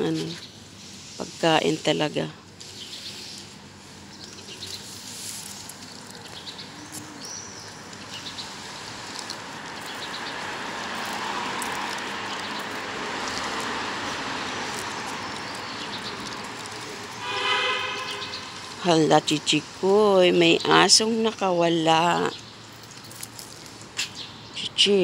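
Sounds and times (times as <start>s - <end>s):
traffic rushing: 0.0s - 25.0s.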